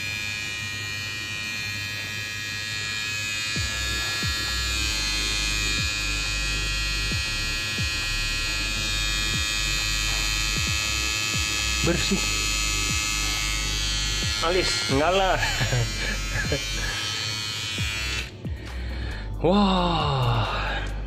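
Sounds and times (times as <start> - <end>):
trimmer electric whine: 0.0 - 19.4.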